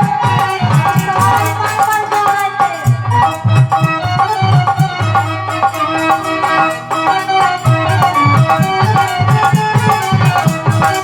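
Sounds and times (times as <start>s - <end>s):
hand drum beat: 0.0s - 11.0s
rattling percussion: 0.0s - 11.0s
melody instrument: 0.2s - 11.0s.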